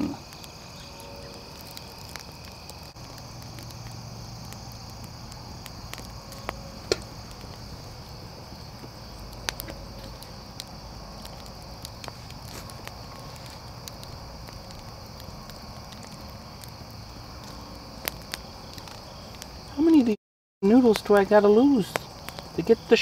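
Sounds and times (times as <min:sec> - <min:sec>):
cooking fire crackles: 0:00.0 - 0:23.0
insects droning: 0:00.0 - 0:23.0.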